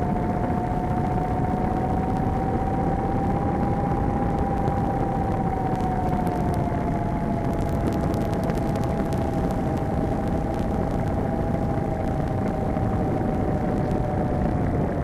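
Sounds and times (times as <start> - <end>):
electric motor and propeller whine: 0.0 - 15.0
heavy wind rush: 0.0 - 15.0.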